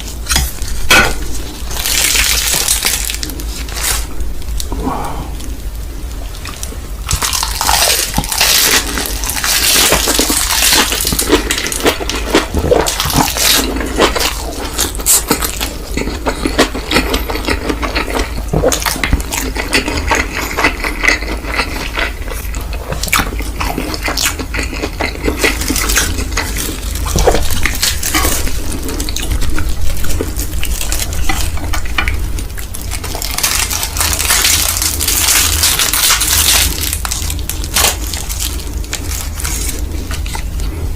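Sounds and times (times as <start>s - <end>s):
wet chewing and slurping: 6.2s - 40.9s.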